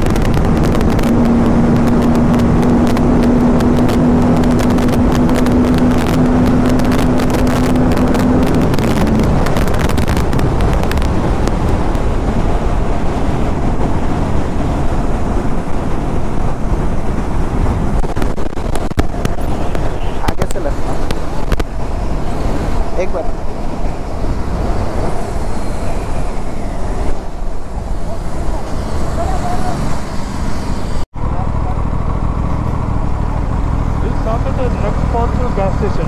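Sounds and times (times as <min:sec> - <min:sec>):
motorcycle engine hum: 0:00.0 - 0:36.0
wind rushing over microphone: 0:00.0 - 0:36.0.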